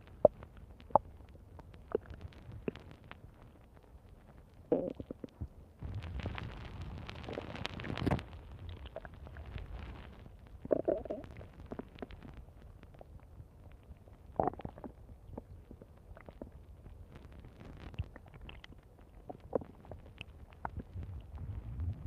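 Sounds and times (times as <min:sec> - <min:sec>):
stomach growling: 0:00.0 - 0:22.0.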